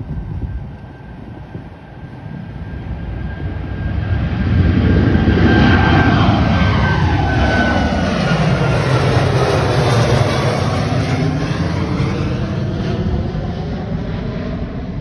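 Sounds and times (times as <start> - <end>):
jet engine whine: 0.0 - 15.0
jet plane passing by: 0.0 - 15.0.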